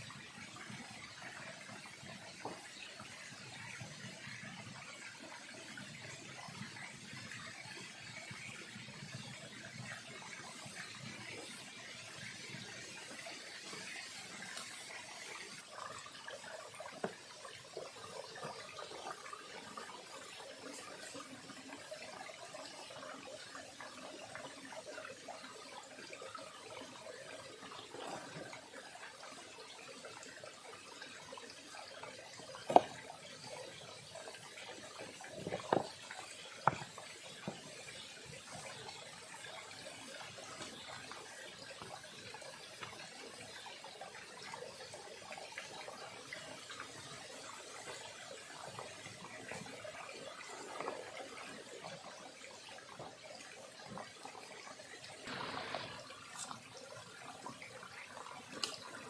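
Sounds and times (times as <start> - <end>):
river trickling: 0.0 - 59.0.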